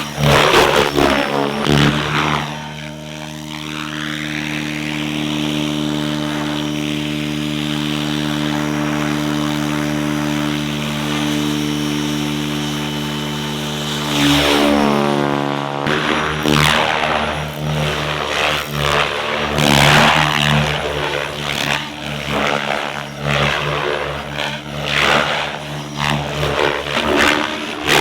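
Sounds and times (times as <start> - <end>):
model airplane engine and propeller: 0.0 - 28.0.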